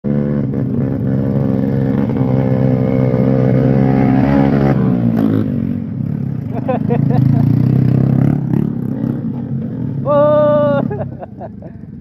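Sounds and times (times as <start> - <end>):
motorcycle engine under throttle: 0.1 - 12.0.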